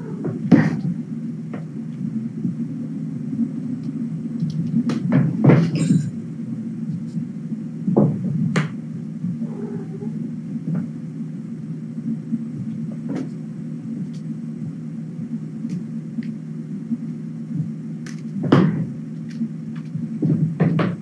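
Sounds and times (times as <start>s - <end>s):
low room rumble: 0.0s - 21.0s.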